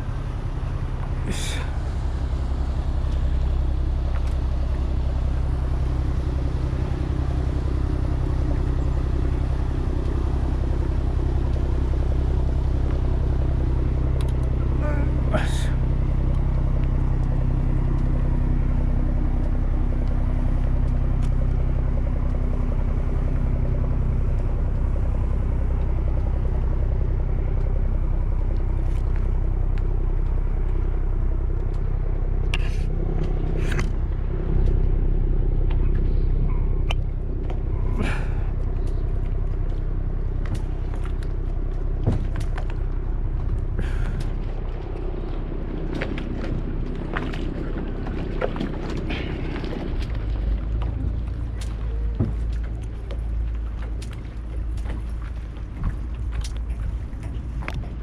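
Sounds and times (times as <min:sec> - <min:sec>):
engine rumbling: 0:00.0 - 0:58.0.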